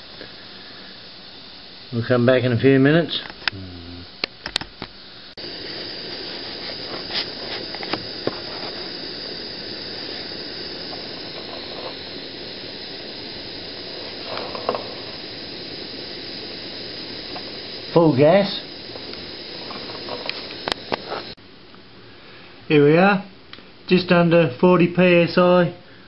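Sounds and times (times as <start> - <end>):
gas burner hissing: 0.0 - 21.4.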